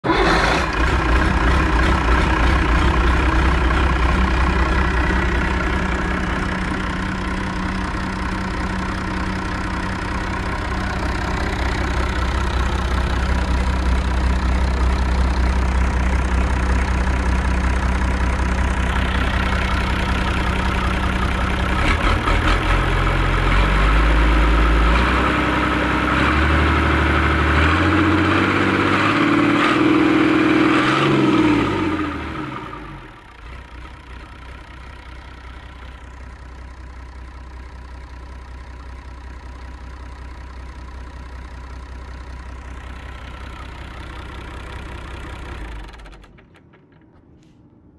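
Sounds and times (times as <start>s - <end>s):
diesel engine idling and revving: 0.0s - 47.0s.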